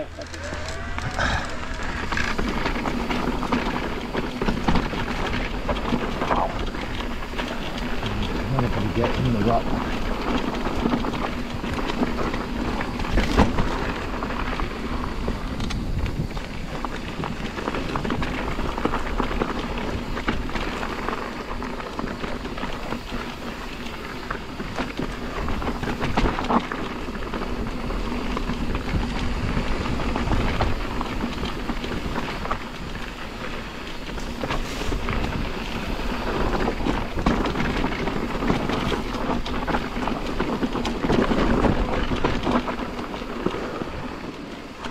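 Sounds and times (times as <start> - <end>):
bike tyres rolling on dirt: 0.0 - 44.9.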